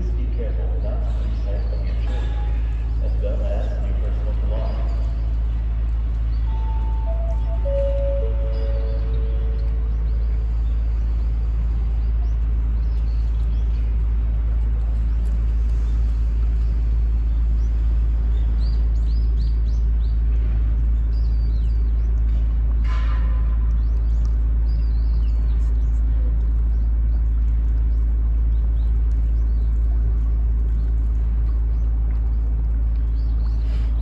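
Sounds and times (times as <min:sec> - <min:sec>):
low rumble: 0:00.0 - 0:34.0
machine-like hum: 0:00.0 - 0:34.0
small birds chirping: 0:00.0 - 0:34.0.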